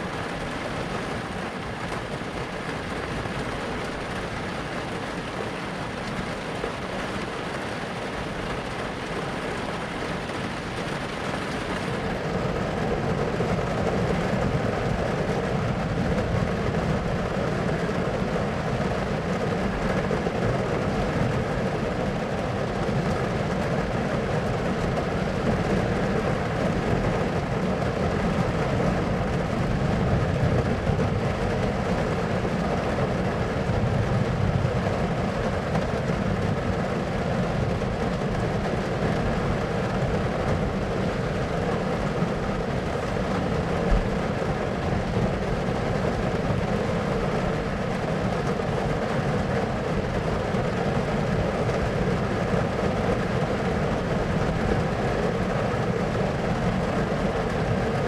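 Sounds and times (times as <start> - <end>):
rainstorm with low rumble: 0.0 - 58.0.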